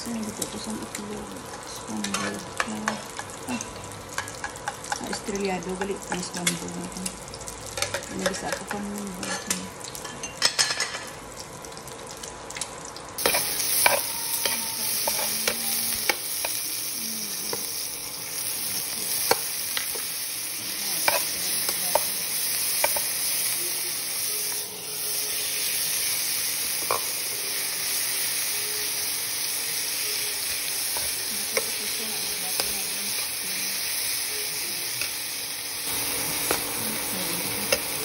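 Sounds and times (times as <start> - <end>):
vegetables sizzling in a frying pan: 0.0 - 38.0.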